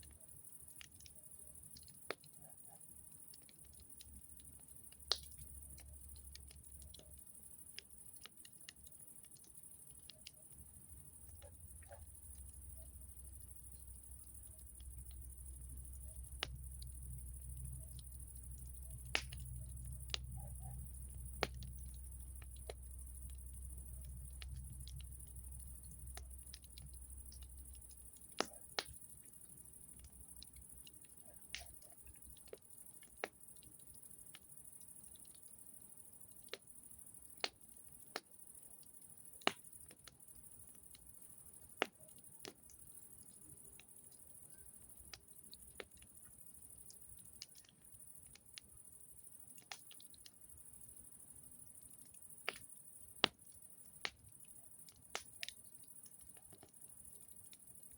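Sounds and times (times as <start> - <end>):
wood fire crackling: 0.0 - 35.6, 36.3 - 50.5, 51.9 - 57.9.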